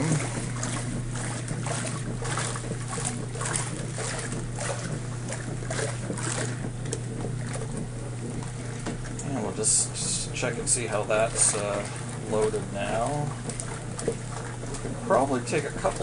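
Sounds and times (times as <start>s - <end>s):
electric motor hum: 0.0s - 16.0s
washer agitator sloshing water: 0.0s - 16.0s.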